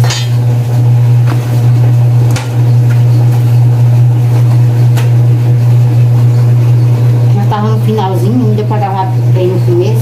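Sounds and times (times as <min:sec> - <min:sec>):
loud low hum: 0:00.0 - 0:10.0.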